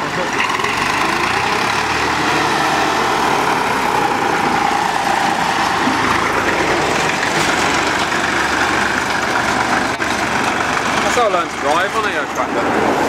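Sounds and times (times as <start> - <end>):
tractor engines driving past: 0.0 - 13.0.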